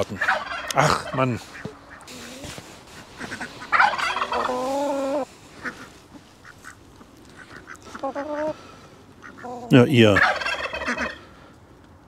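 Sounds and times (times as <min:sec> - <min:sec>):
poultry calling: 0:00.1 - 0:11.4.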